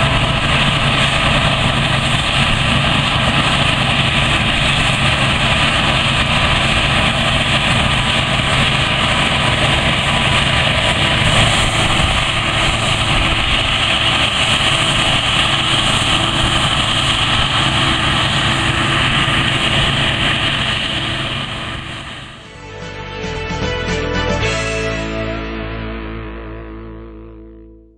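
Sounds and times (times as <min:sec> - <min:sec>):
combine harvester engine drone: 0:00.0 - 0:27.6.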